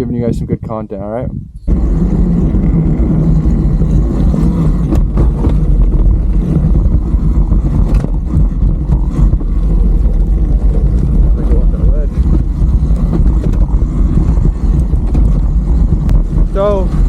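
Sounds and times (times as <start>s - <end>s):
wind rush on microphone: 0.0s - 17.0s
rocks knocking underneath: 1.7s - 17.0s
tyre rumble: 1.7s - 17.0s.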